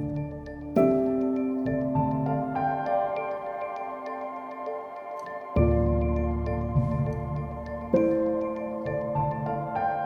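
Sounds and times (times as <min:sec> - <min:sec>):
music of sustained ringing notes: 0:00.0 - 0:10.0.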